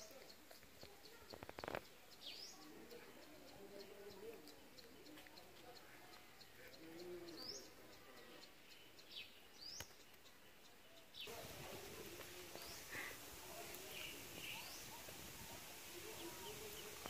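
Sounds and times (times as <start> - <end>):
background hiss: 0.0 - 5.8, 6.4 - 17.0.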